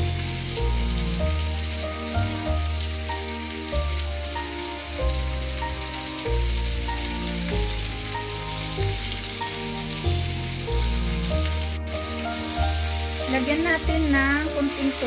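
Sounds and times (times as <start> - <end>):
background music with bass: 0.0 - 15.0
meat sizzling in a wok: 0.0 - 15.0.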